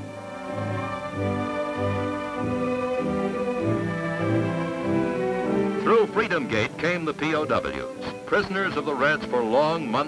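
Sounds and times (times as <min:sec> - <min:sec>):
violins: 0:00.0 - 0:10.0.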